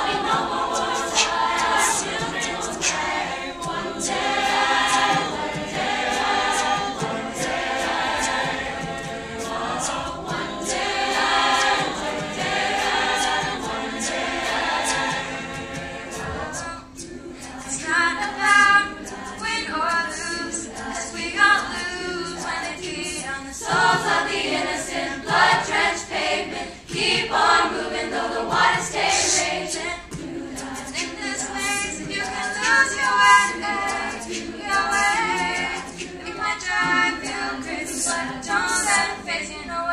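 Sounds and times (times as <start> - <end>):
choir singing a cappella: 0.0 - 39.9
girls singing at a microphone: 0.0 - 39.9.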